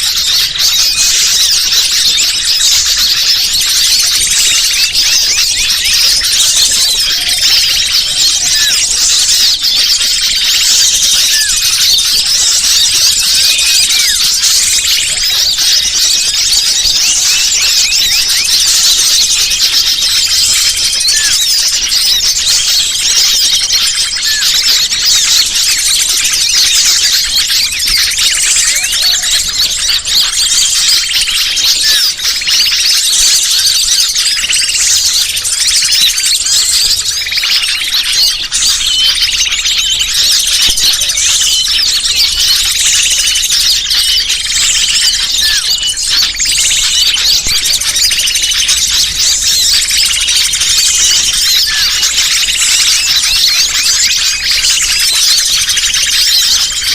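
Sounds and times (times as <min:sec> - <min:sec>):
chorus of small birds chirping: 0:00.0 - 0:56.9.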